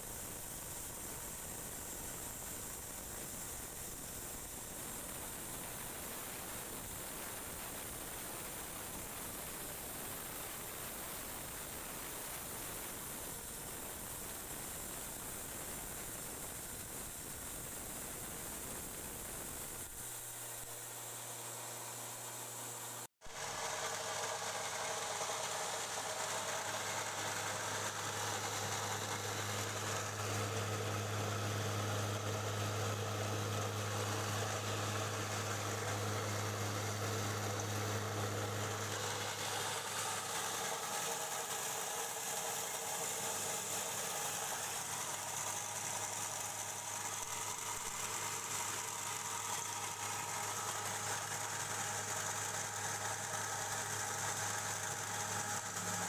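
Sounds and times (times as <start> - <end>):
low mains hum: 0.0 - 56.0
rice huller whirring: 0.0 - 56.0.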